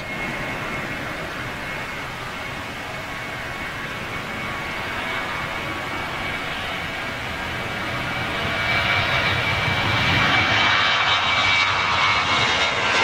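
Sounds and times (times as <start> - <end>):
high fan whine: 0.0 - 12.4
jet engines at take-off thrust: 0.0 - 13.0.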